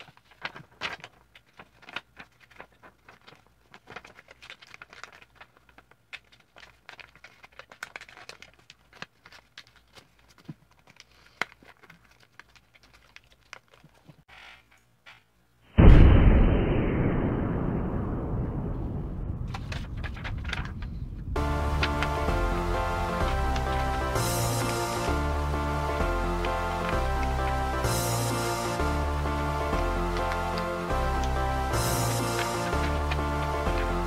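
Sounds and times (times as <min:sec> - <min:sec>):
paper crinkling and folding: 0:00.0 - 0:15.2, 0:19.4 - 0:34.0.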